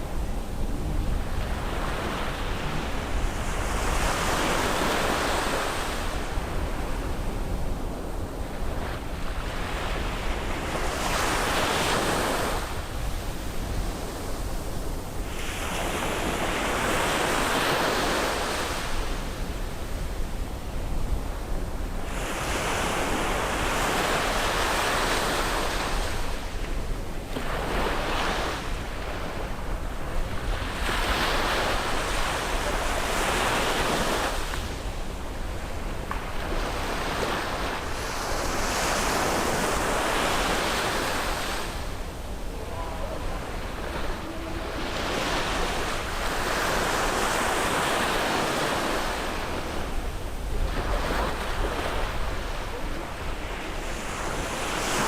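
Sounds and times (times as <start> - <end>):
sea waves breaking on shore: 0.0 - 55.0
wind rumble on microphone: 0.0 - 55.0.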